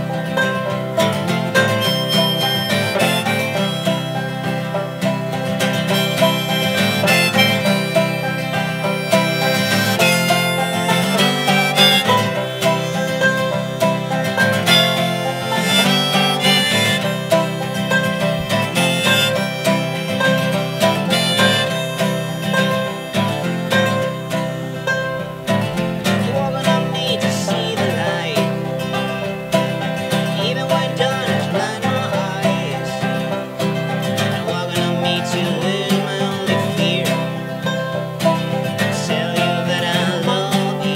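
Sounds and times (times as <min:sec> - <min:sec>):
acoustic guitar: 0:00.0 - 0:40.9
banjo: 0:00.0 - 0:40.9
harmonica: 0:00.0 - 0:40.9.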